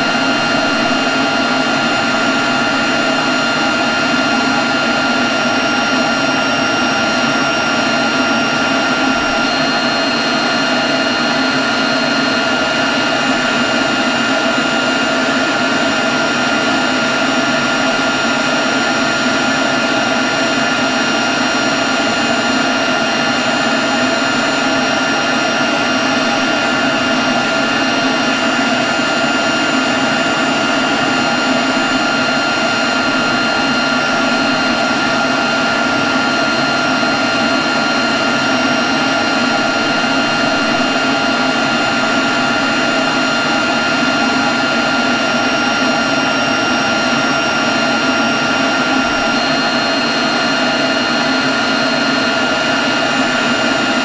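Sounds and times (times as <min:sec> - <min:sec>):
leaf blower running: 0:00.0 - 0:54.0.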